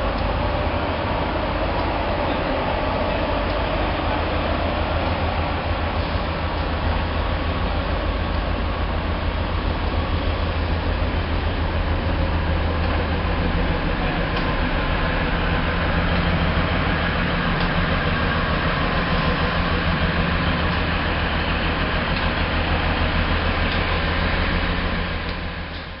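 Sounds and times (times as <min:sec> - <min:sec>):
diesel railcar engines idling: 0:00.0 - 0:26.0.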